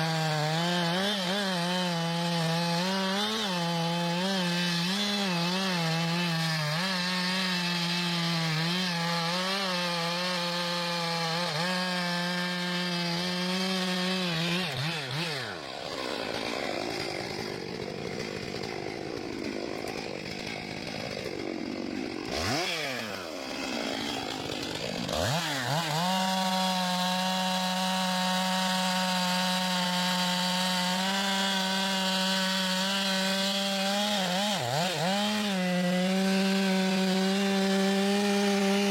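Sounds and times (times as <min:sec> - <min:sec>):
chainsaw running at full throttle: 0:00.0 - 0:38.9.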